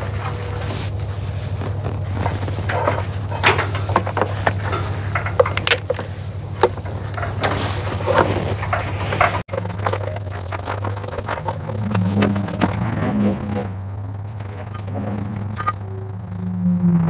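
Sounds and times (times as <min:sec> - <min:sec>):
cord and wiring clicking: 0:00.0 - 0:16.5
steady low hum: 0:00.0 - 0:17.0.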